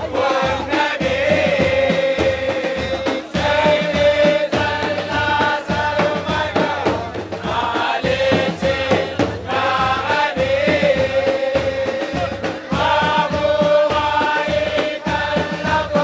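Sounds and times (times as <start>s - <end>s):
low regular beat: 0.0s - 16.0s
men chanting over loudspeakers: 0.0s - 16.0s.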